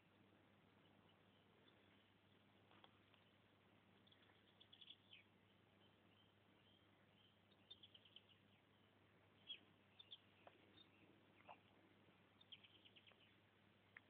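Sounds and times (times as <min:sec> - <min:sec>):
faint bird chirps: 0:00.0 - 0:14.0
low steady hum: 0:00.0 - 0:14.0.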